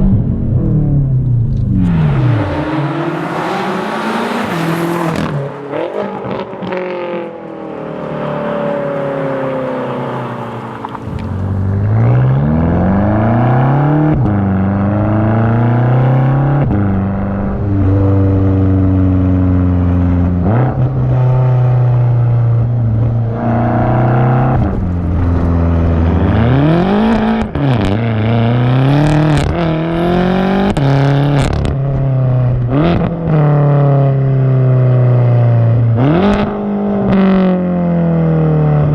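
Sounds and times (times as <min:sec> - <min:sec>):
car exhaust accelerating through gears: 0:00.0 - 0:38.9.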